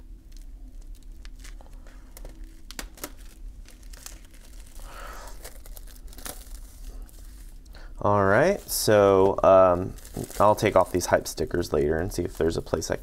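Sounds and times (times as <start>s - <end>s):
plastic wrap tearing and crinkling: 0.0s - 7.7s, 8.3s - 13.0s.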